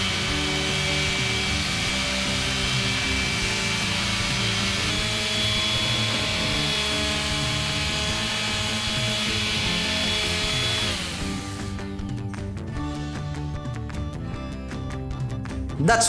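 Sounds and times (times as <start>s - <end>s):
sander motor winding down: 0.0s - 13.0s
palm sander whining on wood: 0.0s - 13.1s.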